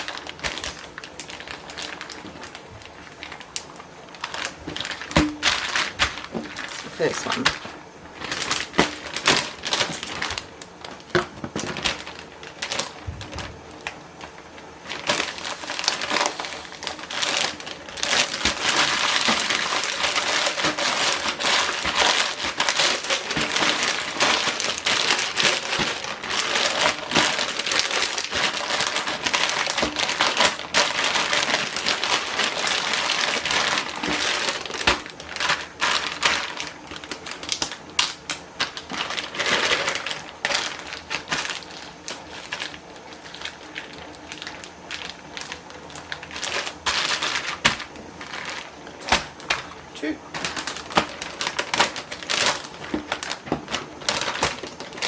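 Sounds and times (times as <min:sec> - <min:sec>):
plastic bags crinkling: 0:00.0 - 0:55.0.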